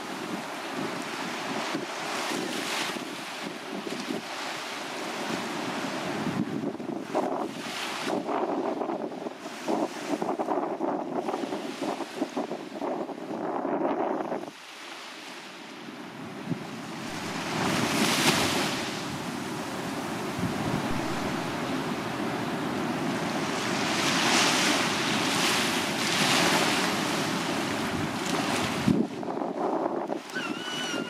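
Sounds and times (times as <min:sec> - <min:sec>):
small waves washing up beach: 0:00.0 - 0:13.4, 0:14.2 - 0:31.0.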